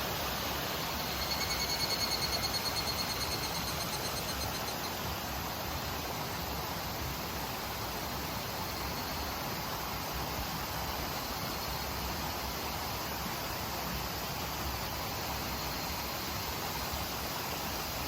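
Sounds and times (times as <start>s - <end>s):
cicada pulsing call: 0.0s - 9.9s, 10.6s - 13.0s, 14.5s - 18.0s
mountain stream rushing: 0.0s - 18.0s.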